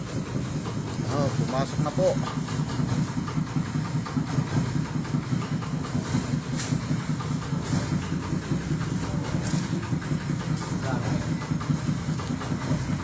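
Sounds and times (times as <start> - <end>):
truck engine and vacuum pump running: 0.0 - 13.0.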